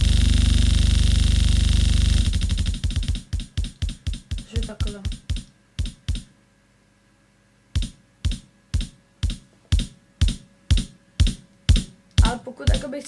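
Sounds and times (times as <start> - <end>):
electronic kick drum hits: 0.0 - 6.3, 7.7 - 12.9.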